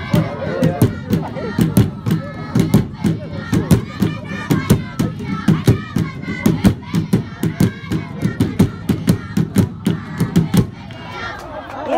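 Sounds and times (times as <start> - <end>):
large drums beaten with sticks: 0.0 - 10.8
group of voices singing and chanting: 0.0 - 11.9.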